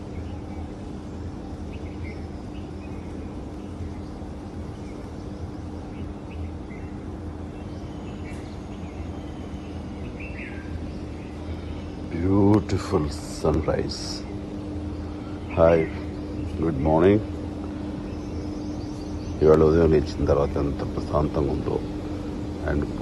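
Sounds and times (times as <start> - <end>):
bird chirps: 0.0 - 23.0
low hum: 0.0 - 23.0.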